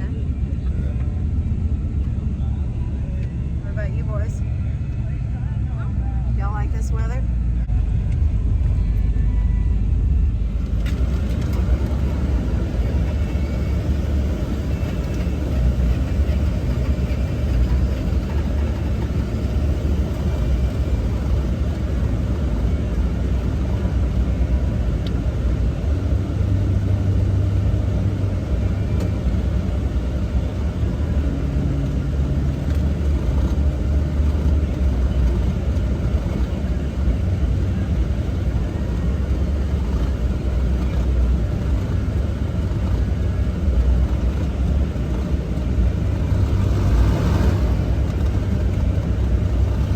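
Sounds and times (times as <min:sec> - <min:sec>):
vehicle engine and road rumble: 0:00.0 - 0:49.9.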